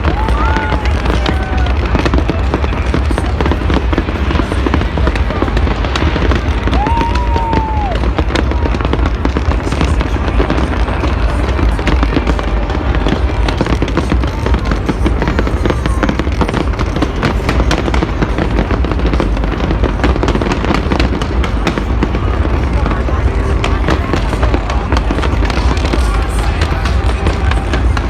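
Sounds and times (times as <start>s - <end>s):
deep rumble of fireworks booms: 0.0s - 28.0s
fireworks crackling and popping: 0.0s - 28.0s.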